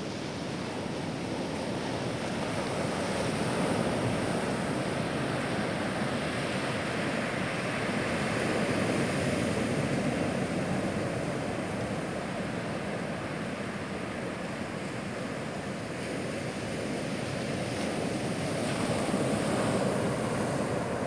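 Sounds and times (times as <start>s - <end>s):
surf washing up a beach: 0.0s - 21.0s.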